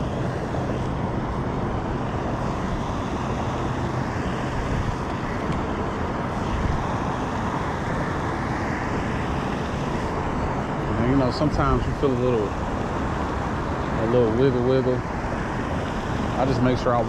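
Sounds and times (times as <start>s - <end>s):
steady outdoor rumble: 0.0s - 17.0s.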